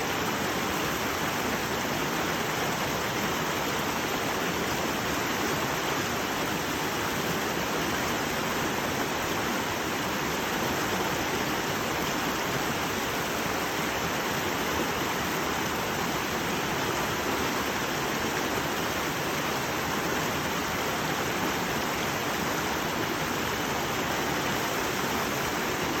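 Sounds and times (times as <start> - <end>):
brook babbling: 0.0 - 26.0.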